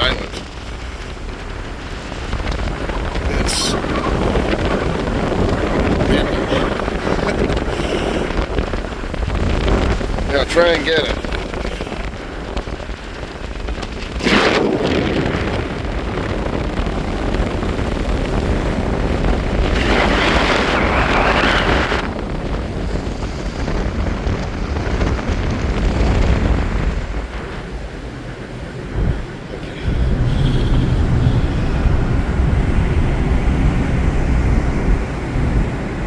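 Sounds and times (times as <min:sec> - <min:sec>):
storm wind buffeting microphone: 0:00.0 - 0:36.0.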